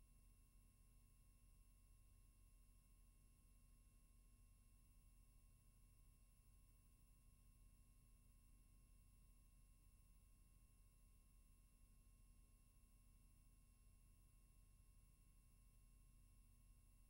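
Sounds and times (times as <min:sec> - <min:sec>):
faint steady hum and hiss: 0:00.0 - 0:17.0.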